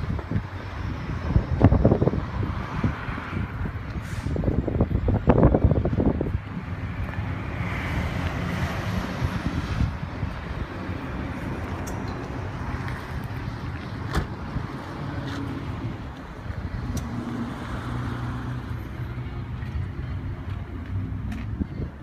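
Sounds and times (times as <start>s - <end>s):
wind on microphone: 0.0s - 18.9s, 21.4s - 22.0s
motor vehicle rumble: 0.0s - 22.0s.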